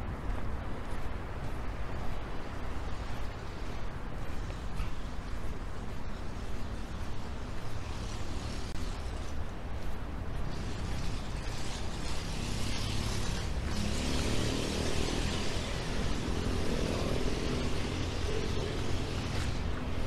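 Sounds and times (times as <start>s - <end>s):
traffic hiss: 0.0s - 20.0s.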